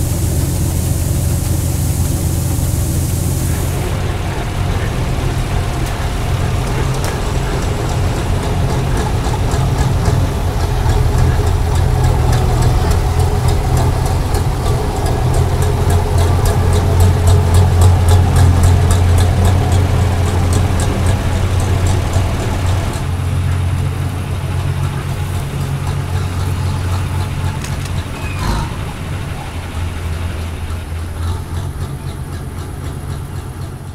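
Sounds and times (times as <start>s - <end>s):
diesel engine humming: 0.0s - 33.9s.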